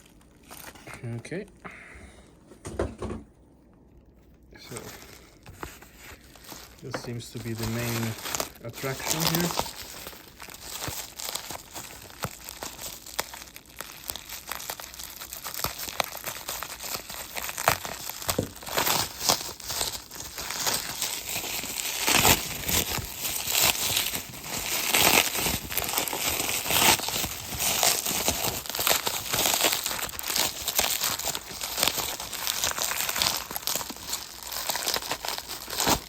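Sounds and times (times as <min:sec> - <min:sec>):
packaging crinkling: 0:00.0 - 0:01.4, 0:04.6 - 0:36.0.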